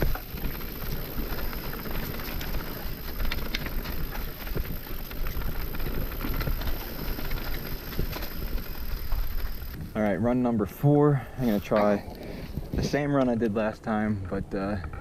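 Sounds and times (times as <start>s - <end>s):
bike clicks and rattles: 0.0s - 10.4s, 11.4s - 15.0s
bike rolling on dirt trail: 0.0s - 15.0s
stones under tires: 0.0s - 15.0s.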